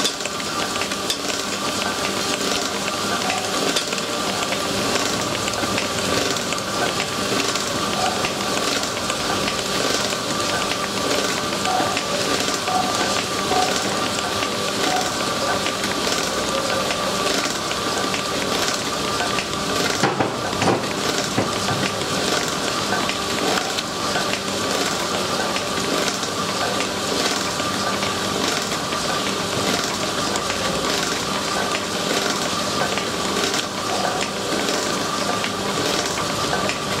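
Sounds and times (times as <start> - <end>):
paddle mixer churning cement: 0.0 - 37.0.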